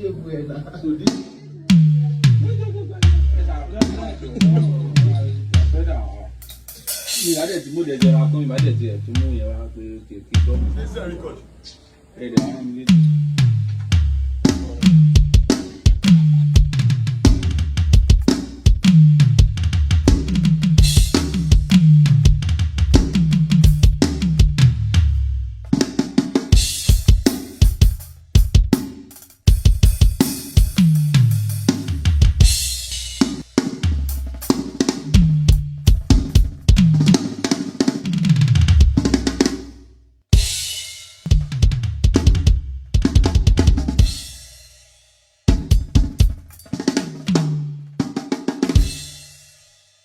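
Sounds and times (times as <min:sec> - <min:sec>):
fast drum strikes: 0:01.0 - 0:11.3, 0:12.3 - 0:49.7.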